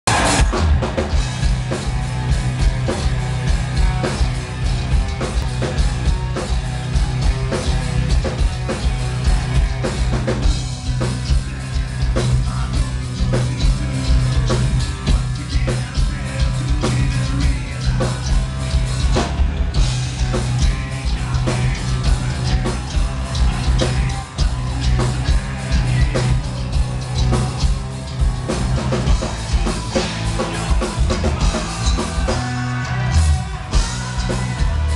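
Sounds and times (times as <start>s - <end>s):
live metal band playing: 0.0s - 34.9s
person singing: 1.7s - 34.9s.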